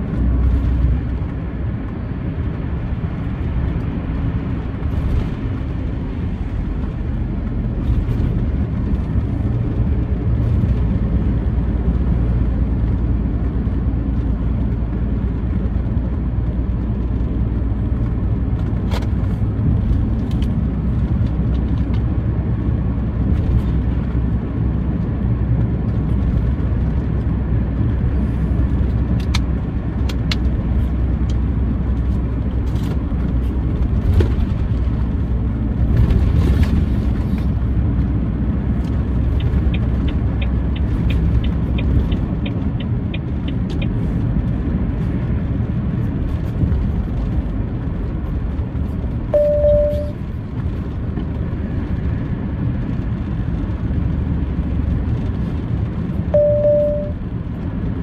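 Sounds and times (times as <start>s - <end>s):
low engine and road rumble: 0.0s - 58.0s.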